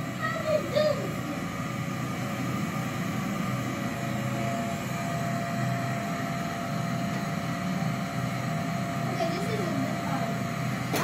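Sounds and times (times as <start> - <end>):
faint steady whine: 0.0 - 11.0
vacuum cleaner running on carpet: 0.0 - 11.0.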